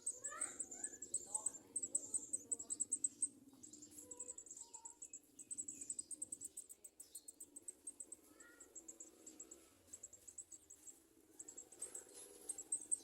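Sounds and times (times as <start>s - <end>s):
baby birds cheeping: 0.0s - 13.0s.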